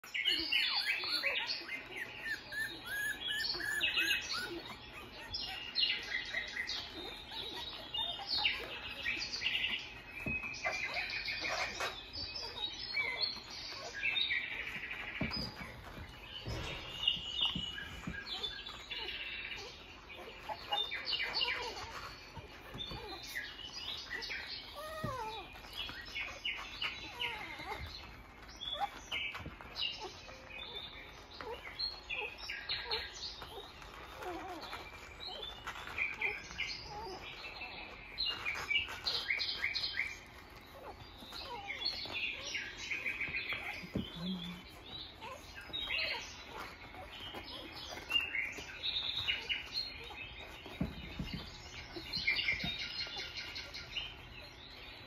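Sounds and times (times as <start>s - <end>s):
puppies squeaking: 0.0s - 55.0s.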